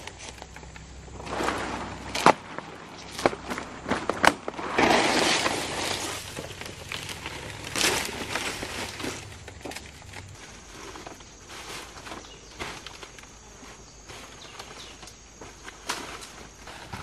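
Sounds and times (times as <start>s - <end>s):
dry vegetation rustling and crackling: 0.0s - 17.0s.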